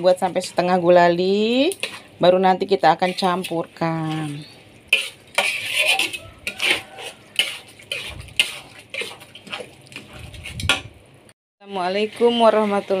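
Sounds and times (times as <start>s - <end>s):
food frying in oil: 0.0s - 13.0s
metal spatula scraping frying pan: 1.7s - 10.9s, 11.6s - 13.0s.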